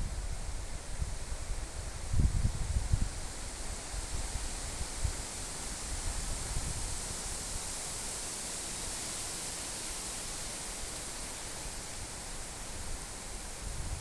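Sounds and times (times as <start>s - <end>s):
wind rustling leaves: 0.0s - 14.0s.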